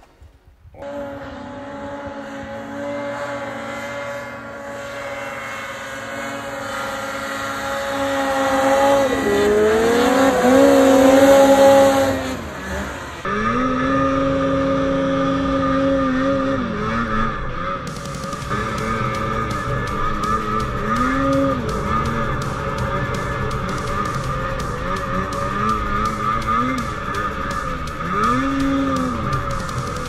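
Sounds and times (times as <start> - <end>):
snowmobile engine high pitch: 0.8 - 30.0
snowmobile engines revving: 0.8 - 30.0.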